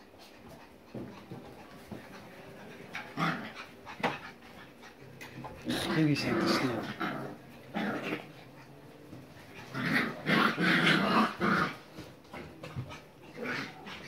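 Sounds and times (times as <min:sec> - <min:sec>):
dogs growling in play: 0:00.0 - 0:14.0.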